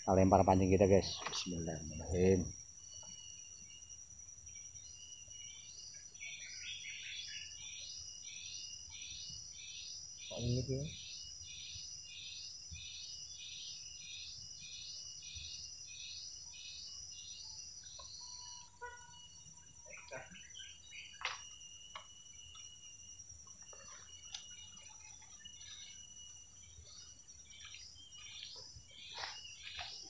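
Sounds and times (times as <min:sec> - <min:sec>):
high-pitched insect whine: 0:00.0 - 0:30.0
insect pulsing call: 0:00.0 - 0:30.0.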